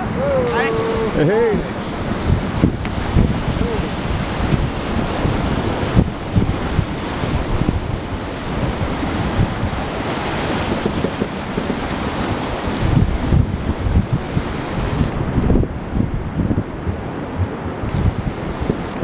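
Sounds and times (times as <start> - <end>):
river rapids rushing: 0.0 - 19.0
wind buffeting microphone: 0.0 - 19.0.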